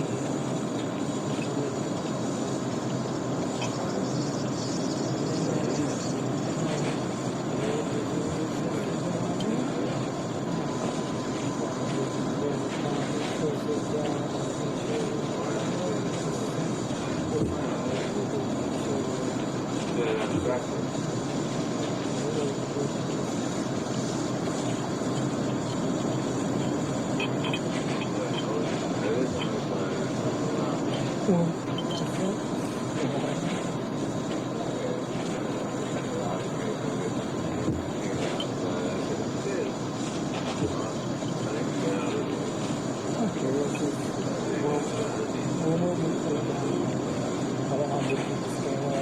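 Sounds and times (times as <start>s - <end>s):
murmuring voices: 0.0s - 49.0s
steady hum: 0.0s - 49.0s.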